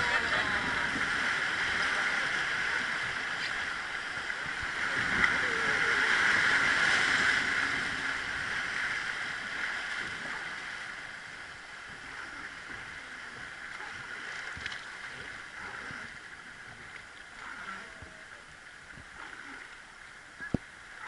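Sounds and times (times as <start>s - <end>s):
rushing white water: 0.0s - 21.0s.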